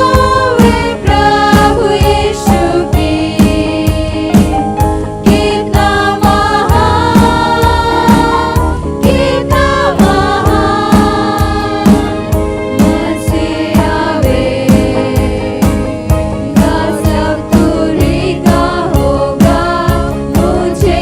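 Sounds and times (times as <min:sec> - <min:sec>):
band playing: 0:00.0 - 0:21.0
drum hits: 0:00.0 - 0:21.0
group singing gospel song: 0:00.0 - 0:21.0.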